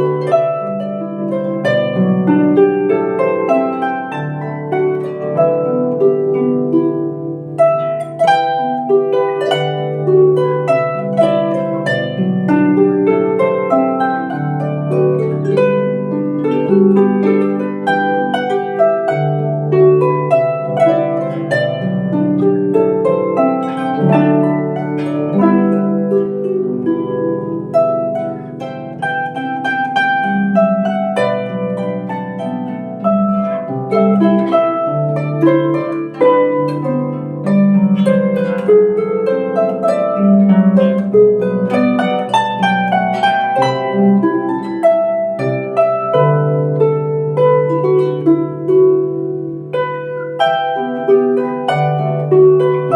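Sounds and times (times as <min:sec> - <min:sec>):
harp melody: 0:00.0 - 0:52.9.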